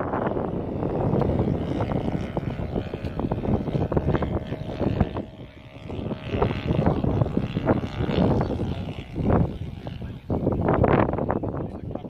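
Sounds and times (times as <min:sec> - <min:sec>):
gusty wind on microphone: 0:00.0 - 0:12.0
model airplane engine drone: 0:00.0 - 0:12.0.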